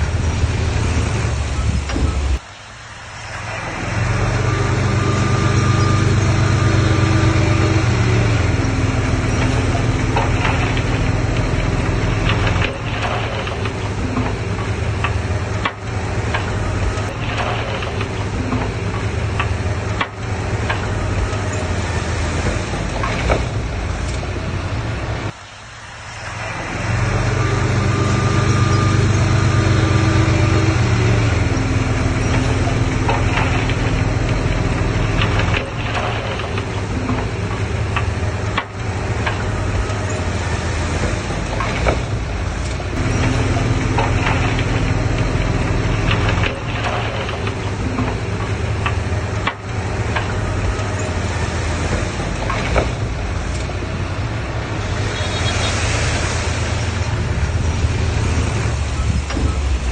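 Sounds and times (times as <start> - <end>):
heavy diesel engine under load: 0.0 - 59.9
metal clanks and knocks: 5.4 - 25.4, 27.2 - 58.4.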